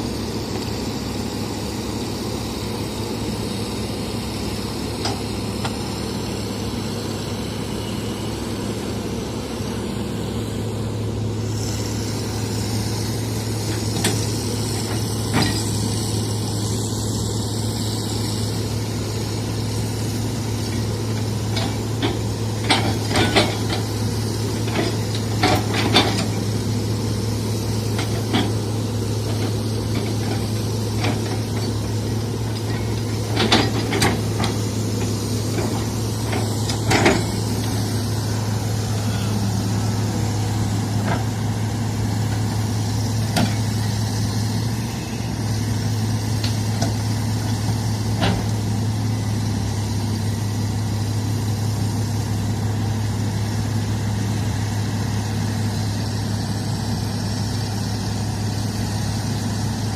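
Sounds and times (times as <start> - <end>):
heavy diesel engine idling: 0.0 - 59.9.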